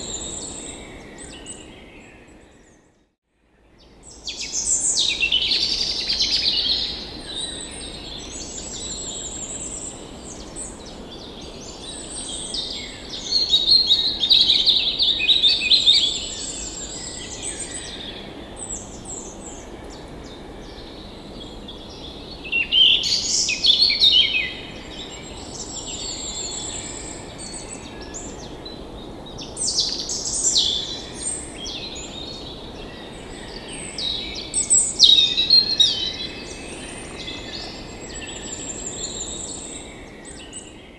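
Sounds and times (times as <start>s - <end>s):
birds singing and chirping: 4.1s - 40.9s.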